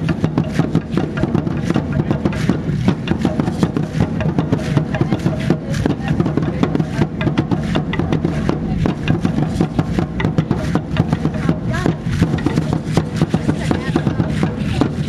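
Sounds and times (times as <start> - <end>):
ankle rattles clattering: 0.0 - 15.0
wooden drums beating: 0.0 - 15.0.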